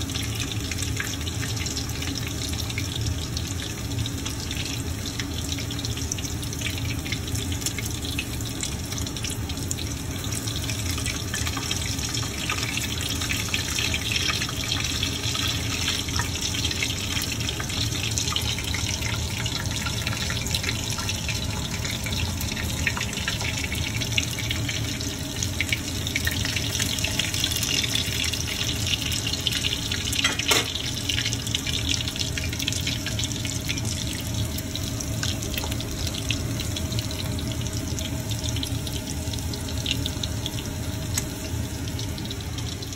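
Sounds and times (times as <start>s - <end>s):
food sizzling in hot oil: 0.0s - 42.9s.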